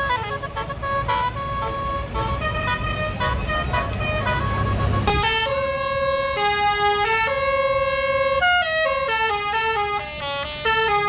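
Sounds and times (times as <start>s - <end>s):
musical bus horn melody: 0.0s - 11.0s.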